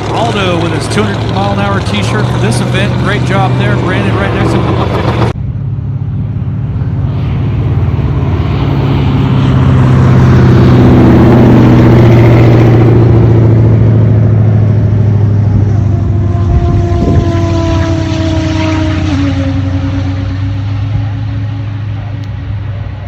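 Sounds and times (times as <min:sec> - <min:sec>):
car engine driving past: 0:00.0 - 0:23.0.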